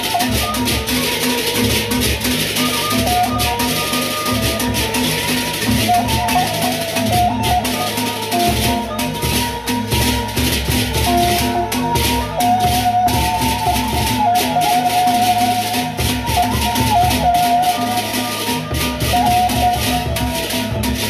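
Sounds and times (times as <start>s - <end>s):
large barrel drums: 0.0s - 21.0s.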